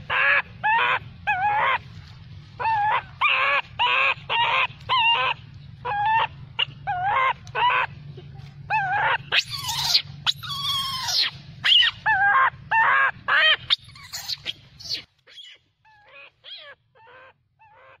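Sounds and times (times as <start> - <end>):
monkeys calling: 0.0 - 1.8, 2.6 - 18.0
low background rumble: 0.0 - 18.0.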